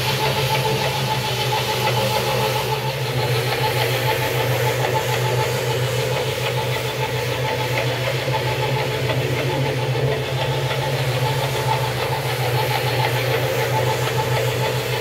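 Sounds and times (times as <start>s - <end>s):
brush scrubbing wet rug: 0.0s - 15.0s
floor scrubber motor hum: 0.0s - 15.0s.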